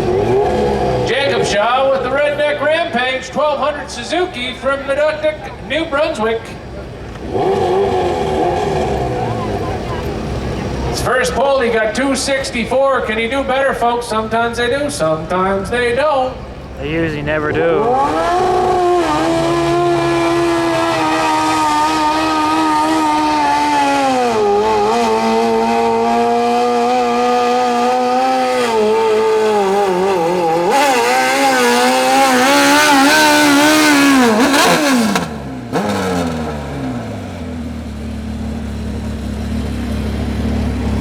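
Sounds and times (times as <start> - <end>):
engine running at high revs: 0.0 - 13.5, 14.8 - 41.0.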